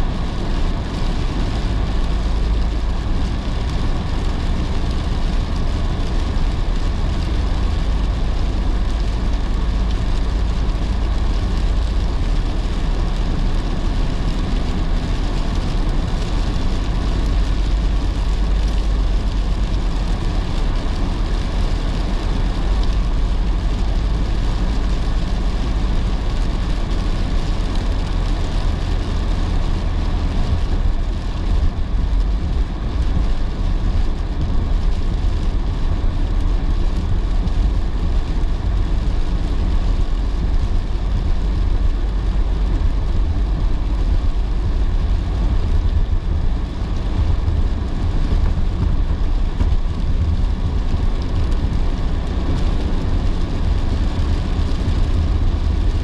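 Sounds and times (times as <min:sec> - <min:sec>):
rain on car: 0:00.0 - 0:56.0
road and tyre noise: 0:00.0 - 0:56.0.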